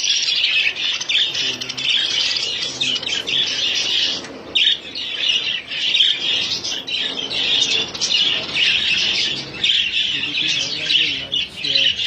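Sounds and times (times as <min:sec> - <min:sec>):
budgerigars chattering and chirping: 0:00.0 - 0:12.0.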